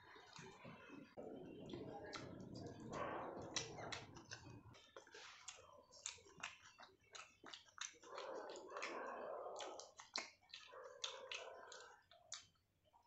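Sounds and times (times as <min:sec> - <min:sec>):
chewing with wet mouth clicks: 0:00.1 - 0:00.6, 0:01.7 - 0:13.0.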